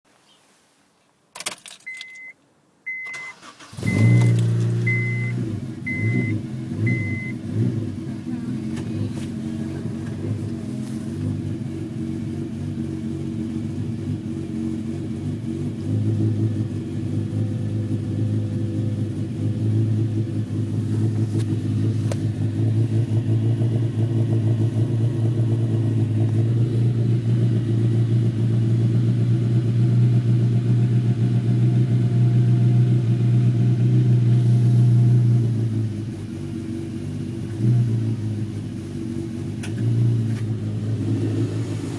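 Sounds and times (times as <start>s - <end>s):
car engine running: 3.3s - 41.9s.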